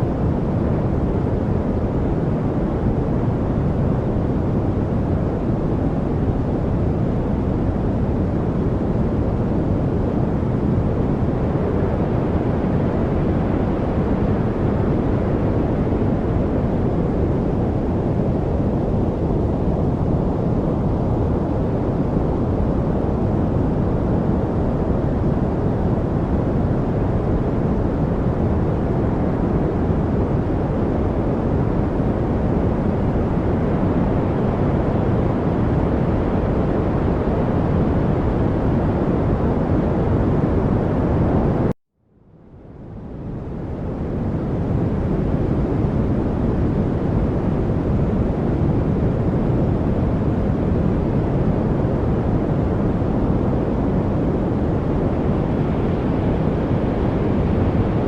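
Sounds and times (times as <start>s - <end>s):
deep rumbling brown noise: 0.0s - 41.7s, 42.5s - 58.0s.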